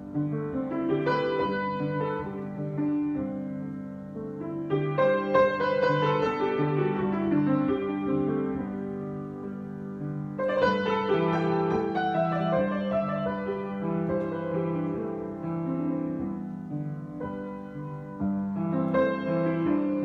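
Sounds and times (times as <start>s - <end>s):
solo piano: 0.0s - 20.0s.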